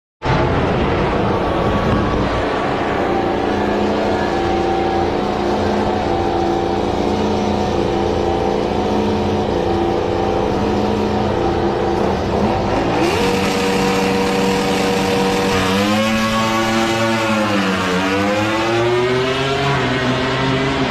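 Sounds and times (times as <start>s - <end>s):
diesel engine racing: 0.2s - 20.9s.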